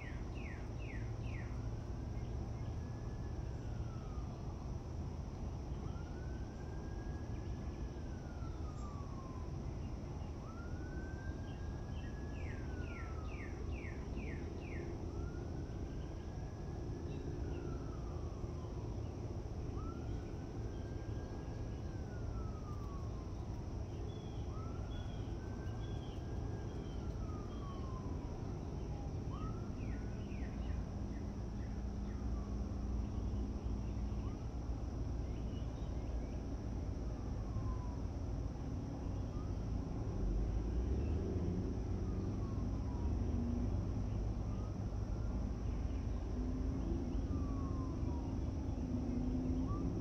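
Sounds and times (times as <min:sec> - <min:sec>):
siren wailing: 0:00.0 - 0:04.8, 0:05.4 - 0:35.2, 0:36.7 - 0:50.0.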